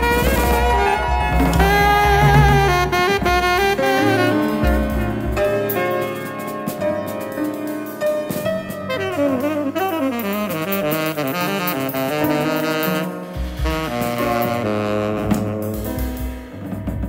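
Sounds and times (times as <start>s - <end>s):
tenor saxophone jazz line: 0.0s - 6.5s, 8.4s - 16.7s
drum kit: 0.0s - 17.0s.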